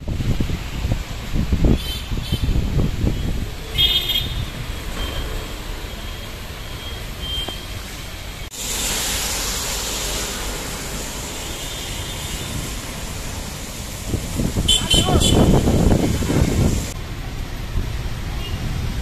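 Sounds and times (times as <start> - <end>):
rain hissing: 0.0 - 19.0
tyres on wet road: 0.0 - 19.0.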